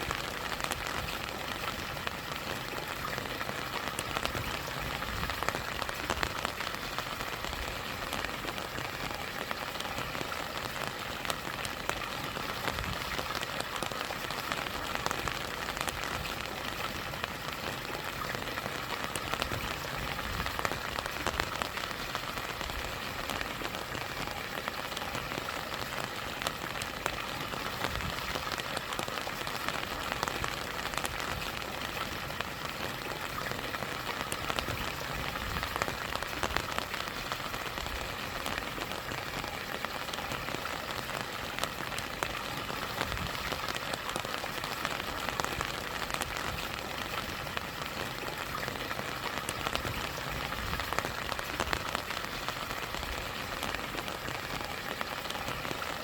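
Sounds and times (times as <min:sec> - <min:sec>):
rain pattering: 0:00.0 - 0:56.0
small waterfall: 0:00.0 - 0:56.0.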